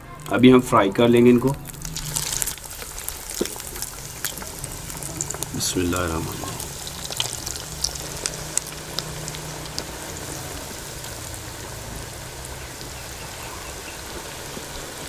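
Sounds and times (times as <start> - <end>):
food sizzling in hot oil: 1.3 - 15.0
oil popping and spitting: 1.4 - 15.0.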